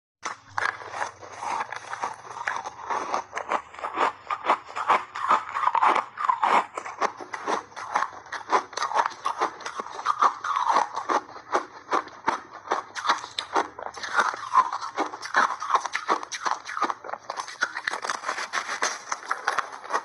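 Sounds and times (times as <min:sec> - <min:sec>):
ice being chewed: 0:00.2 - 0:20.0.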